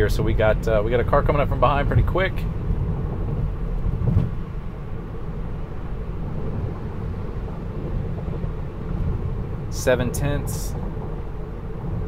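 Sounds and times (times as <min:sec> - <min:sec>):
road and tyre rumble in car: 0:00.0 - 0:12.0.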